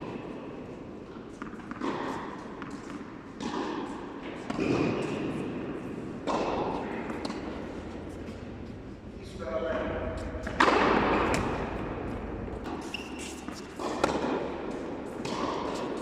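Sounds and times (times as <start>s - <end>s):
tennis ball bouncing on court: 1.3s - 9.1s, 9.7s - 16.0s
tennis ball struck by rackets: 1.3s - 9.1s, 10.0s - 16.0s.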